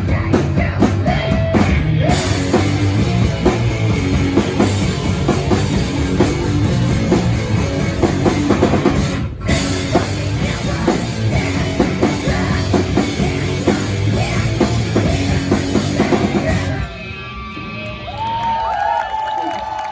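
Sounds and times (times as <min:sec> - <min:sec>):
pounding drum kit: 0:00.0 - 0:17.2
live punk band playing: 0:00.0 - 0:18.5
distorted electric guitars: 0:00.0 - 0:18.7.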